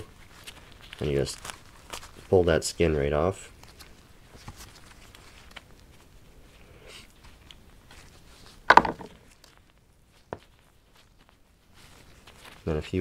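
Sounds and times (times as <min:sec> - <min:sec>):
hide crackling and rubbing: 0:00.0 - 0:13.0.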